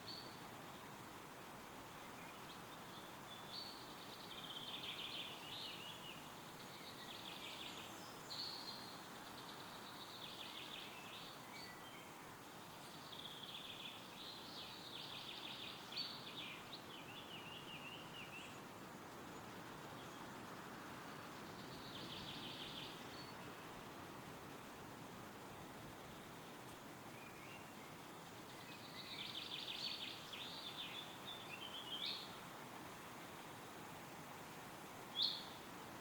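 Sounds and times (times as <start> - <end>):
songbirds singing: 0.0 - 36.0
wind rustling through trees: 0.0 - 36.0.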